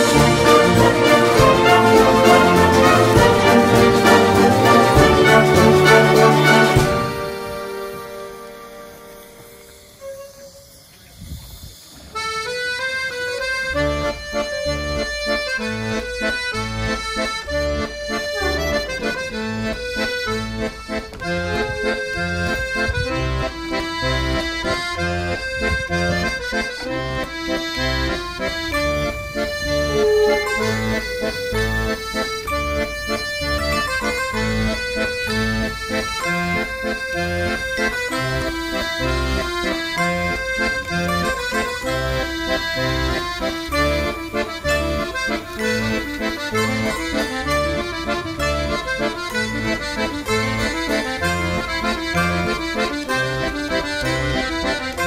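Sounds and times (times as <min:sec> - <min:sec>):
accordion music: 0:00.0 - 0:10.9, 0:12.1 - 0:55.0.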